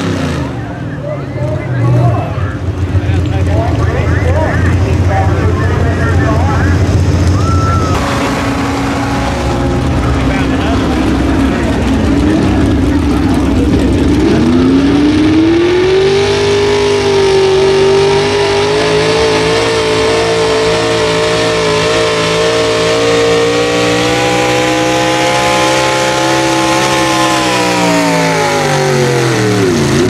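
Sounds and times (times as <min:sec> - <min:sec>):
pickup engine at full throttle: 0:00.0 - 0:30.0.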